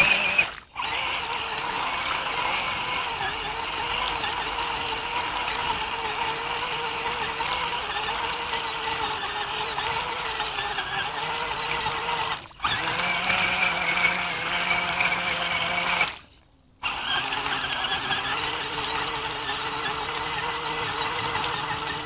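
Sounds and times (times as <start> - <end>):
churning muddy water: 0.0 - 22.0
toy truck motor whine: 0.0 - 22.0.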